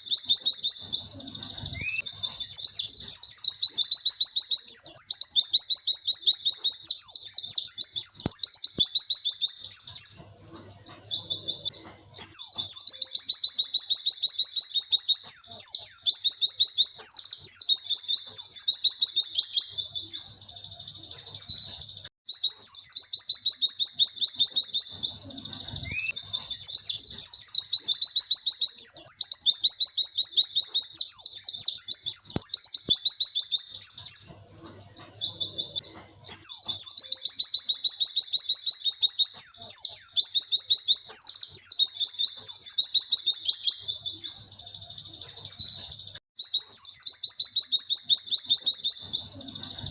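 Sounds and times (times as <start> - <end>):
bird twittering song: 0.0 - 49.9.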